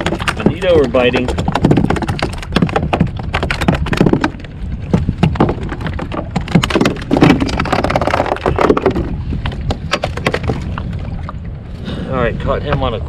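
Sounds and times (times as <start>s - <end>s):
fish thrashing against kayak hull: 0.0s - 11.5s
water splashing: 0.0s - 13.0s
wind rumble on microphone: 0.0s - 13.0s.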